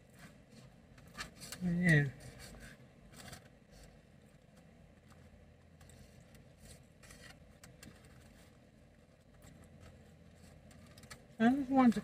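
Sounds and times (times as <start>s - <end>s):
low steady car cabin hum: 0.0s - 12.0s.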